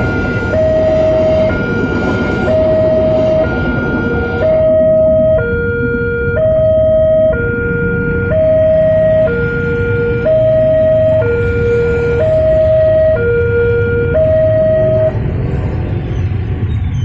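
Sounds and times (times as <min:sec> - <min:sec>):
level crossing two-tone alarm: 0:00.0 - 0:15.2.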